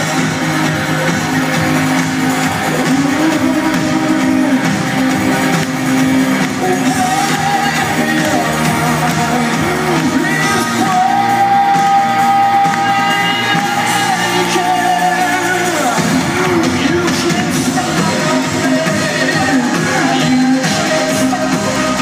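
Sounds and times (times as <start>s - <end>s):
lead singer singing: 0.0s - 22.0s
live band music: 0.0s - 22.0s.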